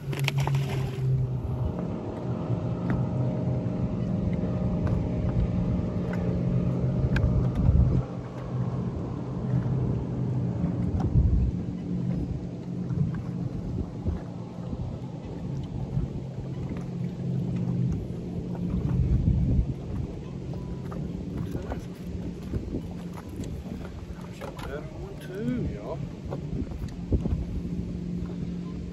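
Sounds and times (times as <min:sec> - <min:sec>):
boat motor humming: 0:00.0 - 0:28.9
low rumbles: 0:00.0 - 0:28.9.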